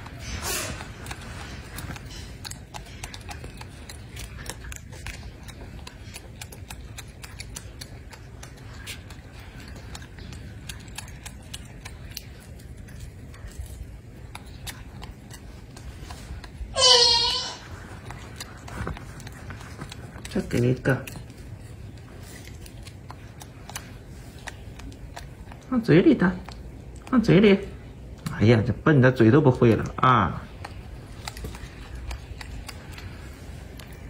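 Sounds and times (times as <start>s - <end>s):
monkey chewing fruit: 0.0s - 34.0s.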